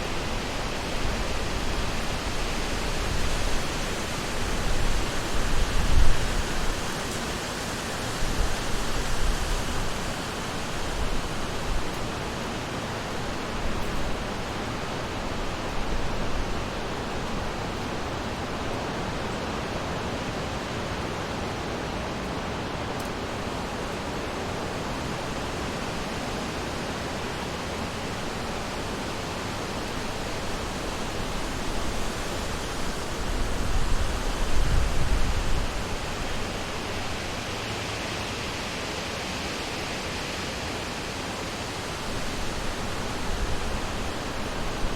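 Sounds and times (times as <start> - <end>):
wind through trees: 0.0 - 44.9.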